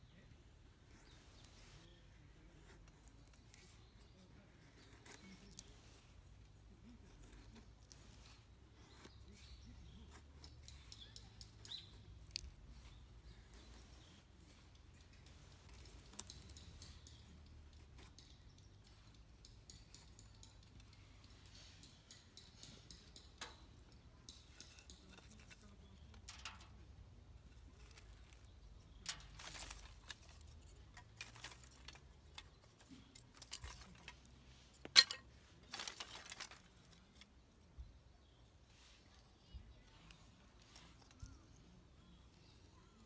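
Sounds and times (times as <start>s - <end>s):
knife scraping wood: 0.9s - 26.8s, 27.5s - 37.3s.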